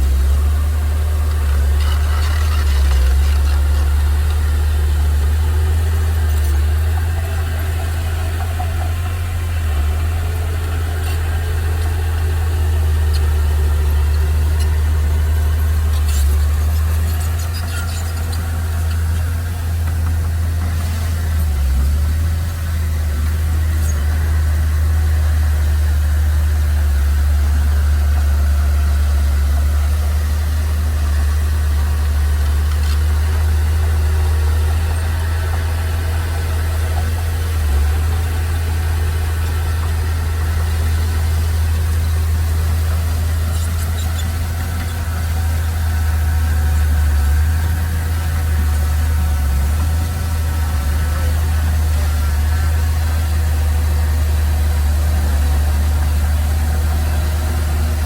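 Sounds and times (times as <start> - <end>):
heavy machine engine humming: 0.0 - 58.0.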